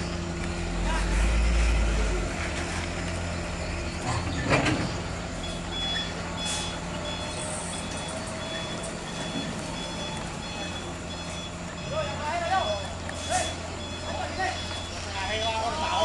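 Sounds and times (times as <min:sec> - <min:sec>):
truck diesel engine running: 0:00.0 - 0:16.0
reversing alarm beeping: 0:02.6 - 0:16.0.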